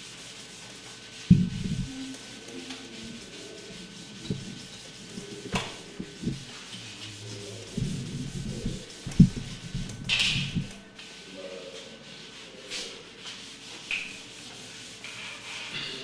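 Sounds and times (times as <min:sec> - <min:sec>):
duster rubbing chalkboard: 0:00.0 - 0:16.0.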